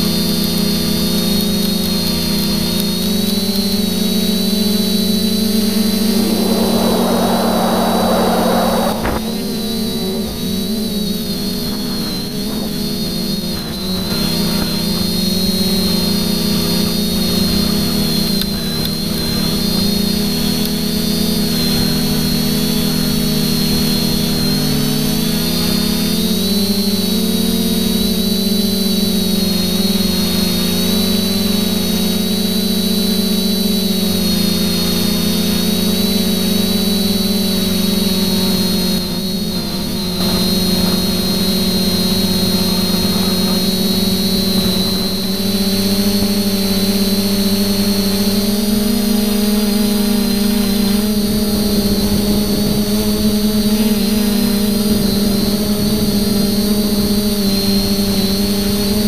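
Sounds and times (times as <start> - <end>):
quadcopter motors whirring: 0.0 - 59.0.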